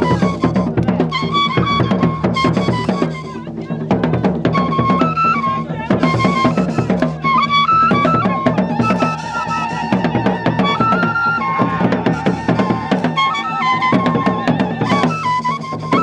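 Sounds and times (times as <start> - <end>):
drums beating fast rhythm: 0.0 - 16.0.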